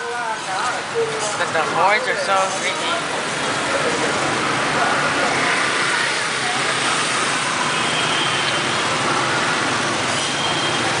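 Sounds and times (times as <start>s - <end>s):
road noise: 0.0s - 11.0s
motorbike and car engines humming: 0.8s - 11.0s.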